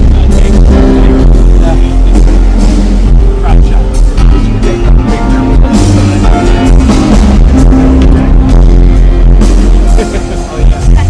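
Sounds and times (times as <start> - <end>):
bass drum pounding: 0.0 - 11.0
live band playing through loudspeakers: 0.0 - 11.0.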